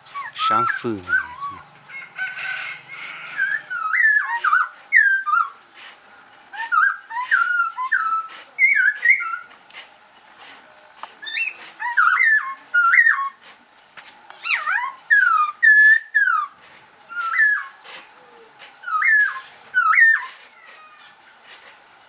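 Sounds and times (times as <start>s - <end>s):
songbird singing: 0.0s - 9.6s, 10.7s - 21.4s.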